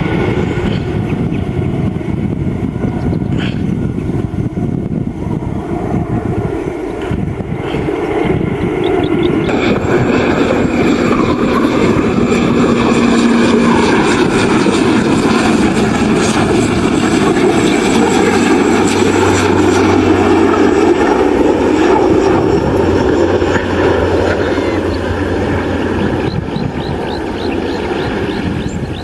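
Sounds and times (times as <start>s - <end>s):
airliner engines running: 0.0s - 29.0s
low hum: 0.0s - 29.0s.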